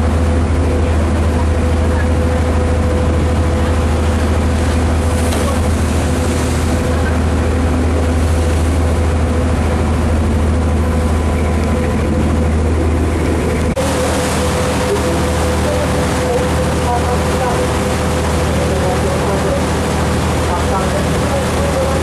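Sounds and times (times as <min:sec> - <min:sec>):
boat engine drone: 0:00.0 - 0:22.0
wind: 0:00.0 - 0:22.0.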